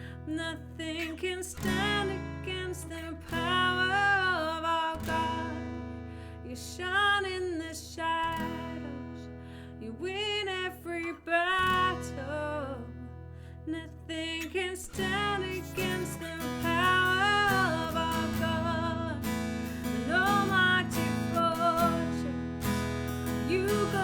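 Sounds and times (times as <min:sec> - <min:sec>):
strummed acoustic guitar: 0:00.0 - 0:24.0
woman singing wordless melody: 0:00.0 - 0:24.0.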